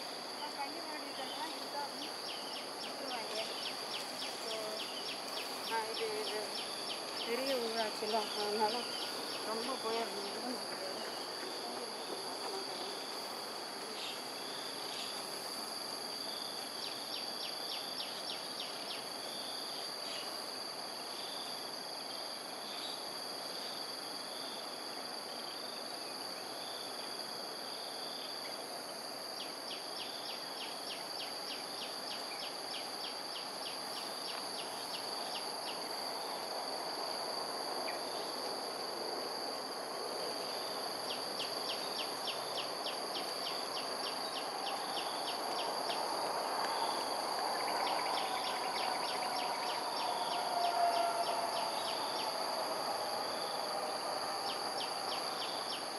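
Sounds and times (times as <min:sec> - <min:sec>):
insect rapid ticking pulses: 0:00.0 - 0:55.9
insects droning: 0:00.0 - 0:55.9.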